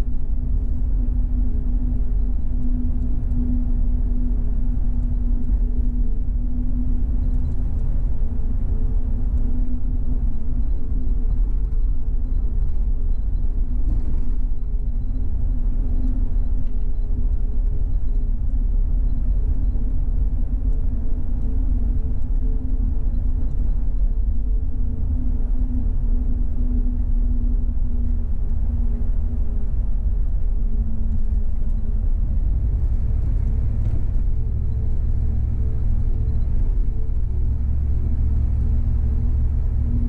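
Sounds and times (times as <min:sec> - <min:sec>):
car cabin road rumble: 0:00.0 - 0:40.0.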